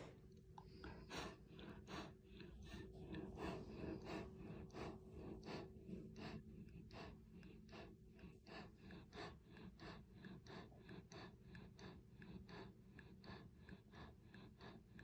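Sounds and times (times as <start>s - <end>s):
dog panting softly: 0.0s - 15.0s.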